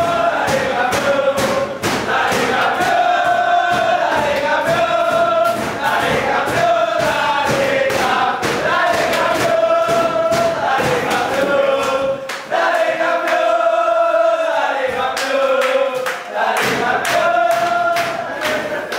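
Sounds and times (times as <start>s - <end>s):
men chanting in unison: 0.0s - 18.9s
rhythmic hand-clapping: 0.0s - 18.9s.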